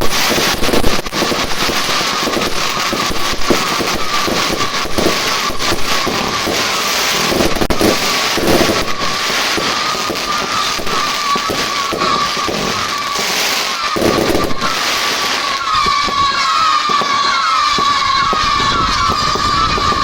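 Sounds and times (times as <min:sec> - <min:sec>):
fireworks bangs and crackling: 0:00.0 - 0:20.0
high firework whistle: 0:00.0 - 0:20.0.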